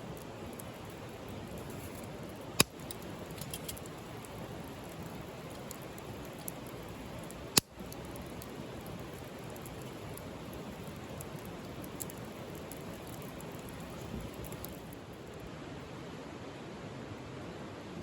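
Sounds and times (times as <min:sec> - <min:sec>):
wood fire crackling: 0:00.0 - 0:15.5.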